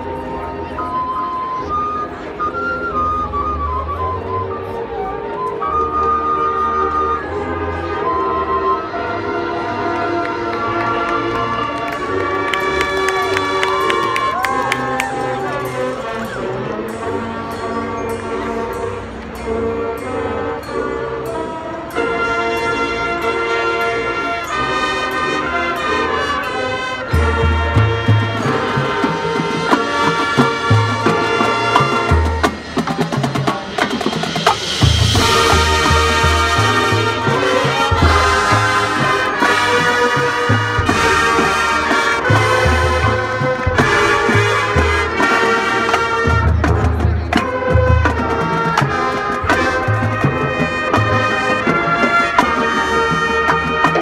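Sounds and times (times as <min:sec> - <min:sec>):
marching band playing jazz: 0:00.0 - 0:54.0.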